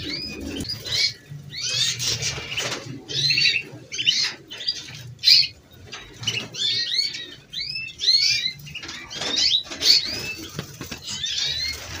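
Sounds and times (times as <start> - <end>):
canaries singing: 0.0 - 12.0.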